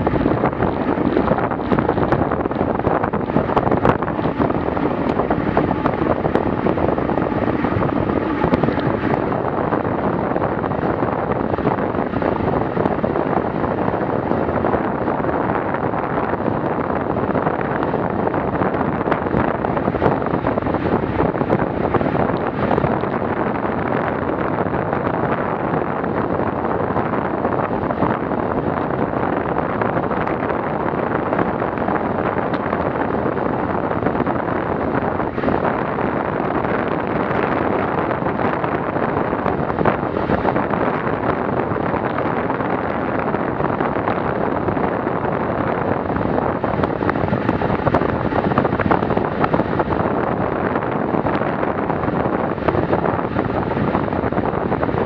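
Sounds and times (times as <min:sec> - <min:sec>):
bicycle tyre noise on asphalt: 0:00.0 - 0:55.0
wind rush on microphone: 0:00.0 - 0:55.0.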